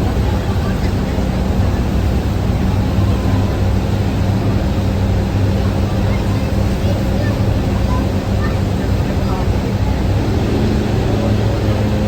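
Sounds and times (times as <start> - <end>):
boat engines droning: 0.0 - 12.0.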